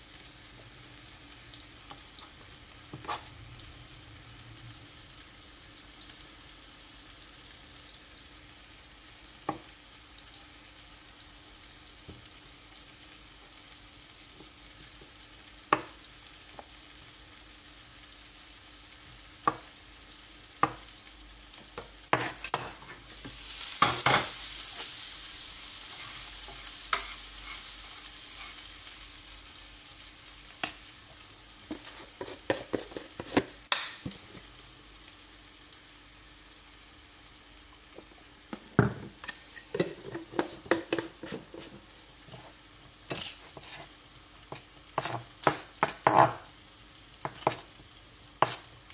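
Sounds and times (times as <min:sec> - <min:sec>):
food sizzling in a pan: 0:00.0 - 0:48.9.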